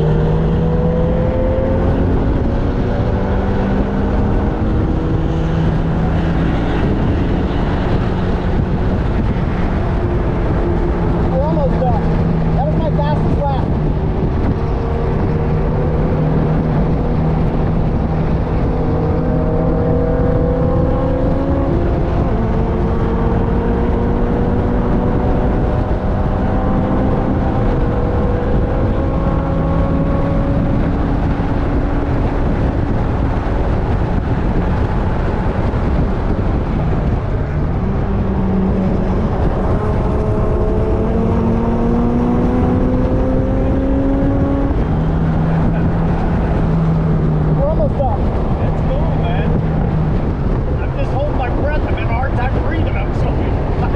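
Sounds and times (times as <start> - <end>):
race car engine under load: 0.0 - 53.9
wind and road rush: 0.0 - 53.9.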